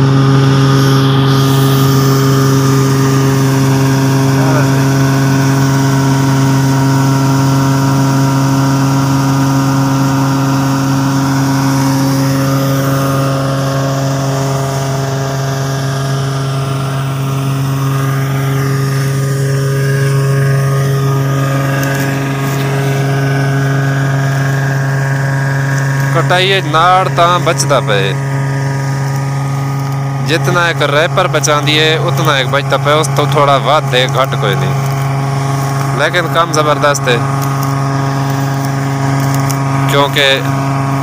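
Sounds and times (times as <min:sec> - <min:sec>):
combine harvester engine and threshing hum: 0:00.0 - 0:41.0.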